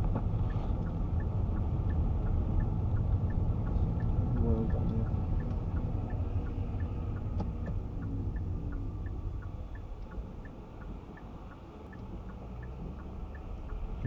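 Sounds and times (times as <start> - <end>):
car road and engine rumble: 0.0 - 14.0
turn signal ticking: 0.0 - 14.0.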